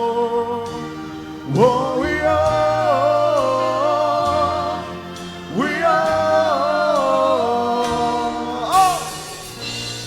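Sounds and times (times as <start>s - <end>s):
live reggae band playing: 0.0s - 10.0s
singer holding long notes: 0.0s - 10.0s.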